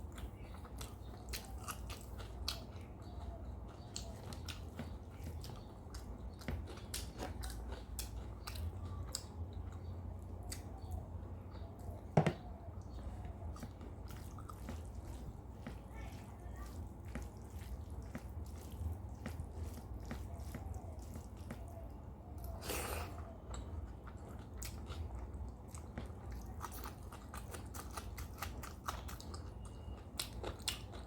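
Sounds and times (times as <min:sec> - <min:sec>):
chewing with wet clicks: 0:00.0 - 0:31.0.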